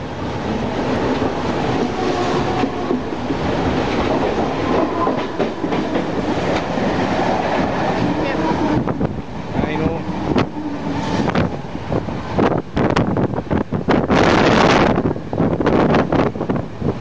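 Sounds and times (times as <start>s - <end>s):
passing train: 0.0s - 17.0s
train rumbling and wheels clattering: 0.0s - 17.0s.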